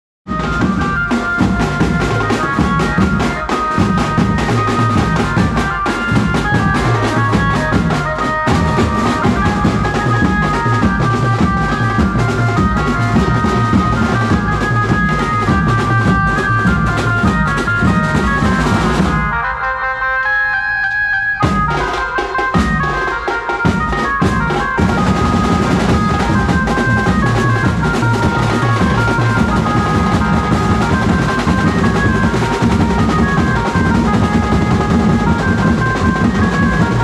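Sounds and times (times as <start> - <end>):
marching drums beating: 0.3 - 19.5, 21.4 - 37.0
amplified melody through loudspeakers: 0.3 - 37.0.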